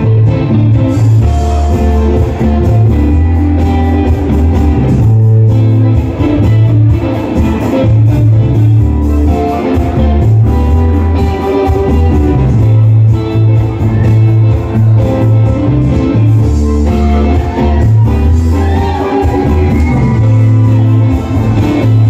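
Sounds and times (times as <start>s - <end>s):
bass guitar: 0.0s - 22.0s
drums: 0.0s - 22.0s
electric guitar: 0.0s - 22.0s
keyboards: 0.0s - 22.0s.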